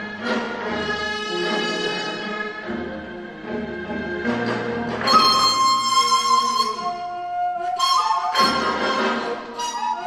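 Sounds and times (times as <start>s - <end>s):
bamboo flute with traditional orchestra: 0.0s - 10.0s.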